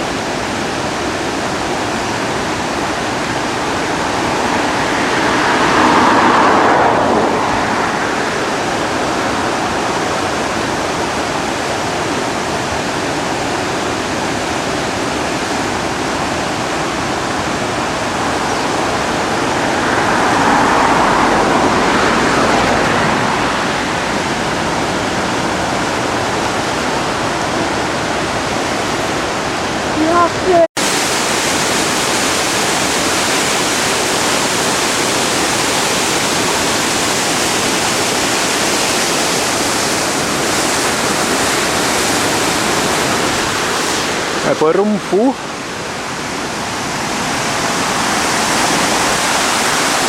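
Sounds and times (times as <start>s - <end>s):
flooded river roaring: 0.0s - 50.0s.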